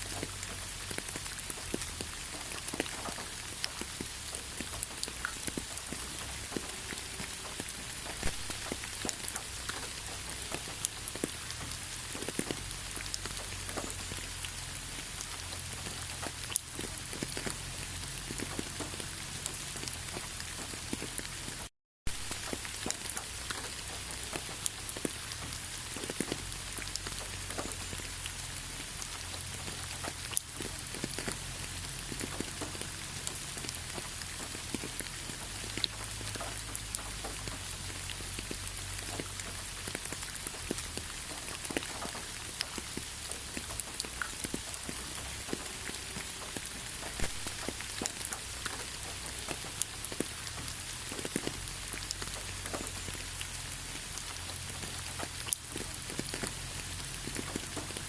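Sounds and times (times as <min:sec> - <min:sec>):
raindrop taps: 0:00.0 - 0:58.0
steady rain falling: 0:00.0 - 0:58.0.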